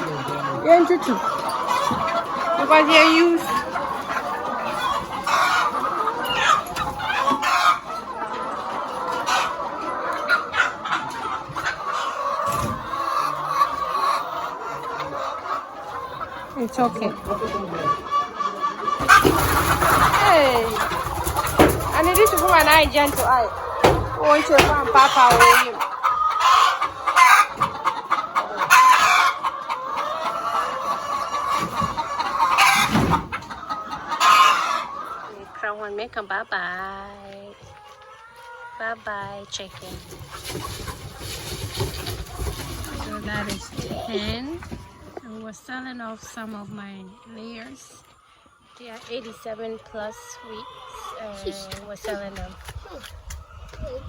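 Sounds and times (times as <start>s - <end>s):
chickens squawking: 0.0s - 54.0s
hens clucking: 0.0s - 54.0s.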